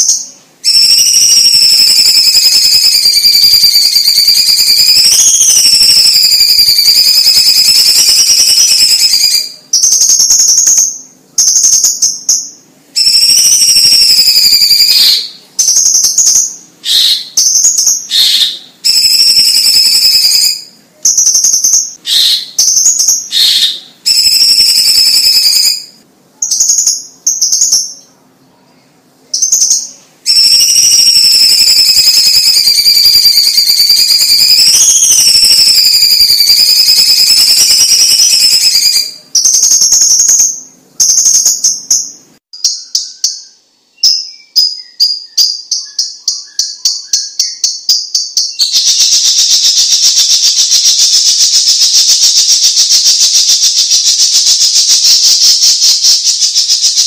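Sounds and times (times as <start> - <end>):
bird singing whistled trills: 0.0 - 28.2, 29.2 - 57.0.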